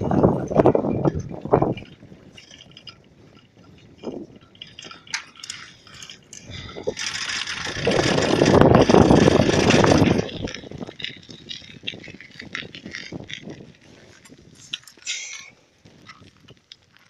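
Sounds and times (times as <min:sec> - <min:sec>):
wind rushing over microphone: 0:00.0 - 0:16.6
light clicks and rattles: 0:00.2 - 0:17.0.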